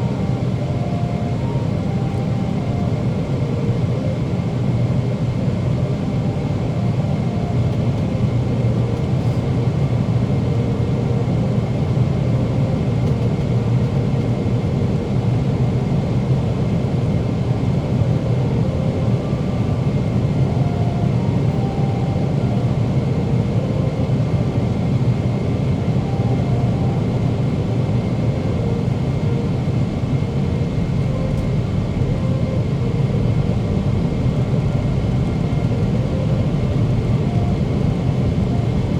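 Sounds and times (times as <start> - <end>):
airplane cabin rumble: 0.0 - 38.9
faint high whine: 0.0 - 38.9.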